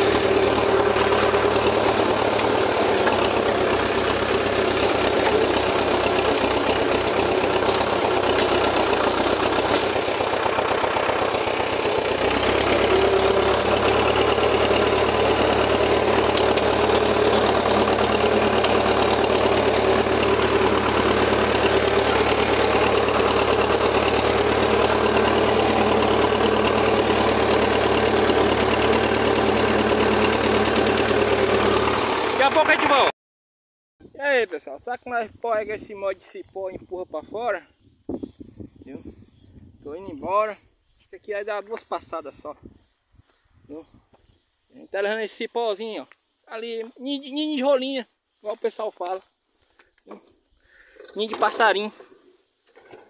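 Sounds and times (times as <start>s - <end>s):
tractor diesel engine running: 0.0s - 33.1s, 34.1s - 42.5s, 49.1s - 53.0s.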